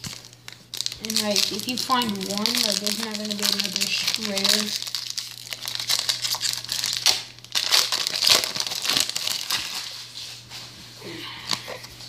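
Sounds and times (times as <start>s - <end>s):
card pack wrapper crinkling: 0.0s - 10.3s.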